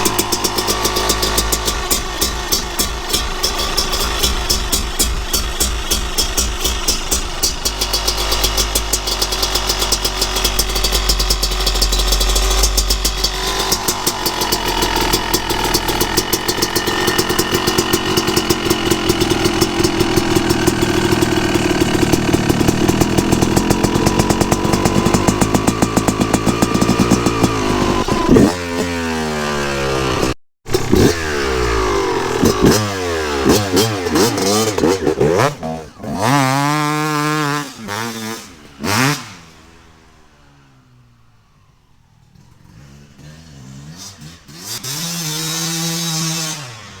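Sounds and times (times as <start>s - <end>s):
engine throttle blips: 0.0s - 42.6s
two-stroke engine idling: 0.0s - 46.4s.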